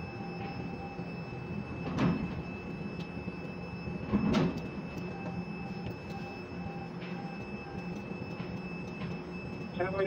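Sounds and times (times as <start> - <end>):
crane machinery hum: 0.0 - 10.0.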